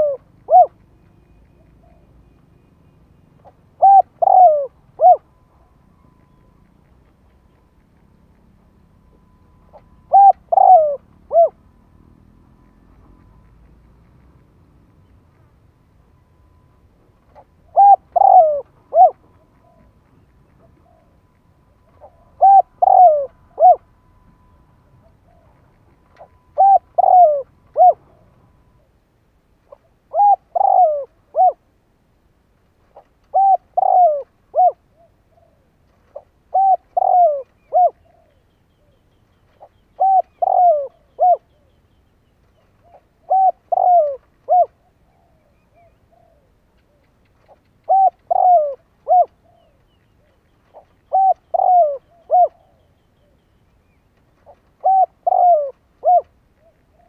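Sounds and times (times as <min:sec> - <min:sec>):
dove cooing: 0:00.0 - 0:02.2, 0:03.4 - 0:08.5, 0:09.5 - 0:11.7, 0:17.3 - 0:28.9, 0:29.7 - 0:31.7, 0:32.9 - 0:41.8, 0:42.4 - 0:53.5, 0:54.4 - 0:57.0.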